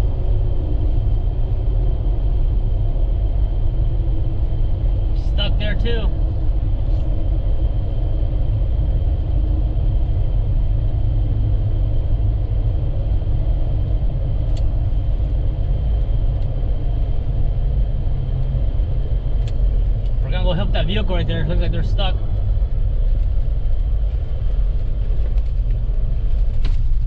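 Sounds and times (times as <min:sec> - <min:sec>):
vehicle rumbling on highway: 0:00.0 - 0:27.0.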